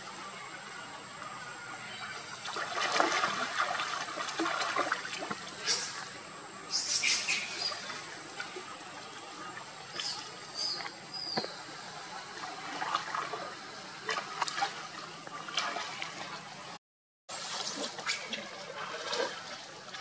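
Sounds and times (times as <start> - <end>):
water splashing in a pool: 0.0 - 20.0.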